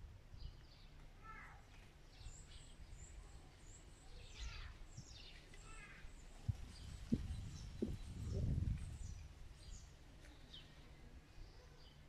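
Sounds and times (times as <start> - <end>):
faint small bird chirps: 0.4 - 12.0.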